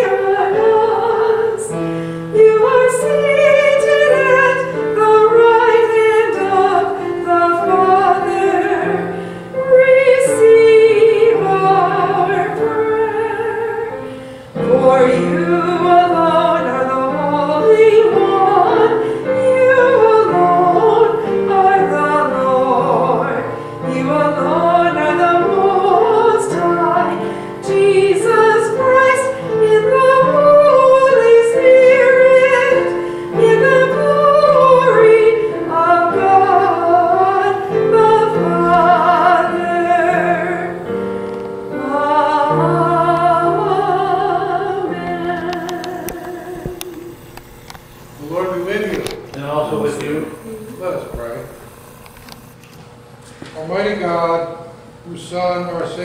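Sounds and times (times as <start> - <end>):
person singing with vibrato: 0.0 - 47.5, 49.7 - 51.7
keyboard accompaniment: 0.0 - 53.1.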